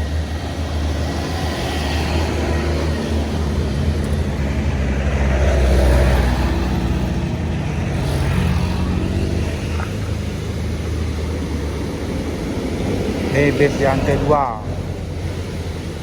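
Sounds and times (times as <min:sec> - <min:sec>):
bus diesel engine passing: 0:00.0 - 0:16.0.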